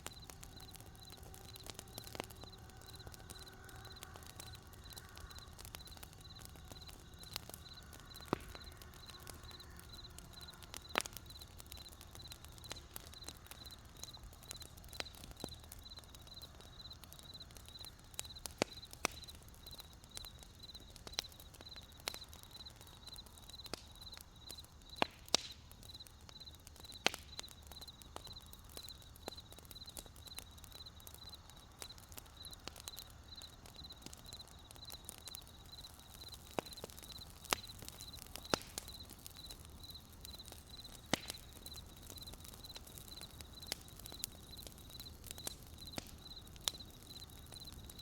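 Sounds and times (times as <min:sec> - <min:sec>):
campfire crackling and popping: 0:00.0 - 0:48.0
crickets chirping: 0:00.1 - 0:14.6, 0:15.4 - 0:21.9, 0:25.9 - 0:48.0.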